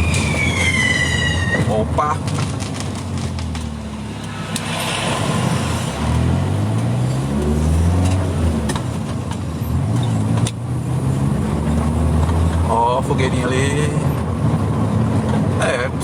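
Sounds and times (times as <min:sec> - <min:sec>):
vehicle engine accelerating: 0:00.0 - 0:15.6
road noise: 0:00.0 - 0:16.0.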